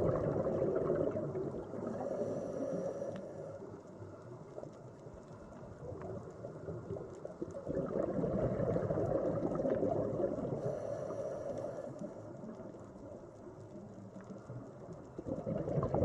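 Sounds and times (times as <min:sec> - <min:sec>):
muffled underwater rush of water: 0:00.0 - 0:16.0.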